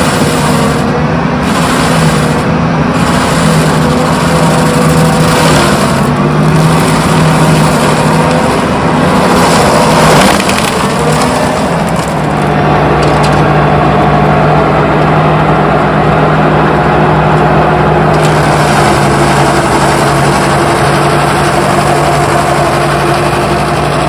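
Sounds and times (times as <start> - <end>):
large engine running: 0.0 - 24.0.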